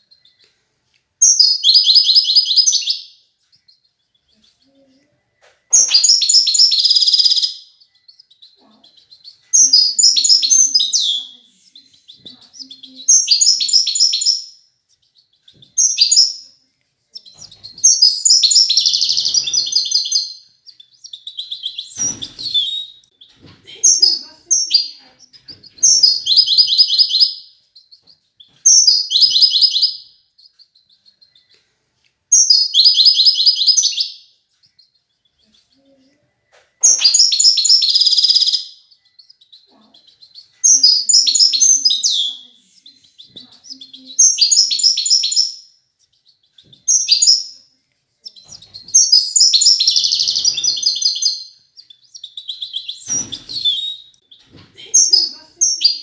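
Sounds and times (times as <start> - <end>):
goldfinch twittering song: 1.2 - 31.6, 32.3 - 35.8, 36.4 - 56.0.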